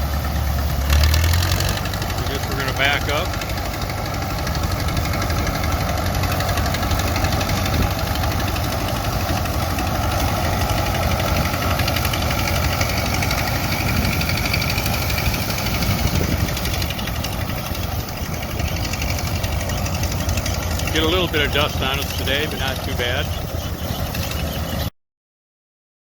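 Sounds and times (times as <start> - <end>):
tractor and combine engines running: 0.0 - 24.9.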